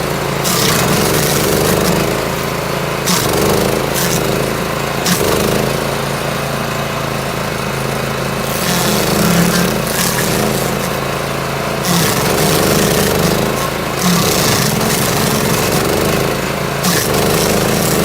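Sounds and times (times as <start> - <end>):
cutter wheel grinding stump: 0.0 - 18.0
stump grinder engine running: 0.0 - 18.0.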